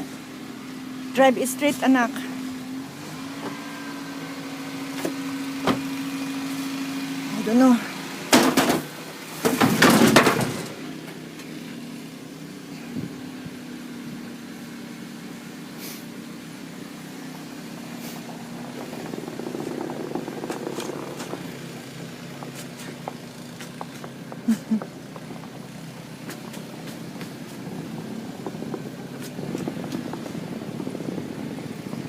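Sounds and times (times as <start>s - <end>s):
car engine humming: 0.0s - 32.0s.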